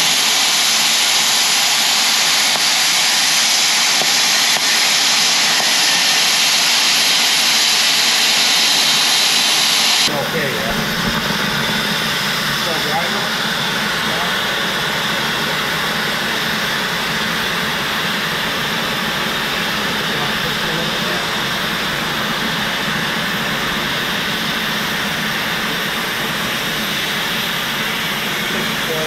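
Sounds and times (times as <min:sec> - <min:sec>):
cutting torch hiss: 0:00.0 - 0:29.0.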